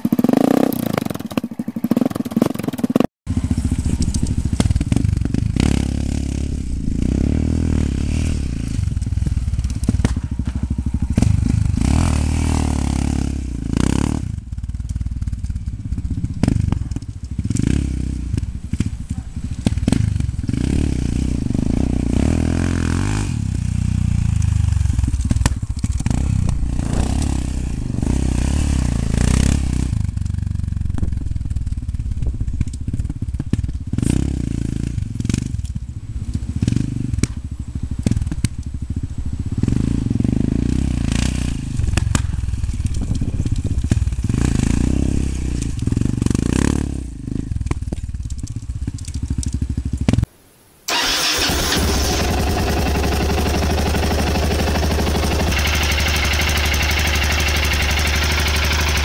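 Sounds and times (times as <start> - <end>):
motorcycle engine revving: 0.0 - 50.3, 50.9 - 59.0.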